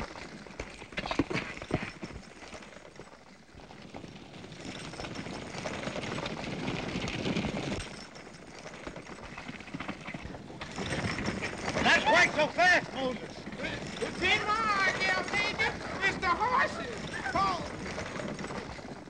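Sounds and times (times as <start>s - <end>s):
buggy wheels rattling: 0.0s - 19.0s
horses galloping: 0.0s - 19.0s.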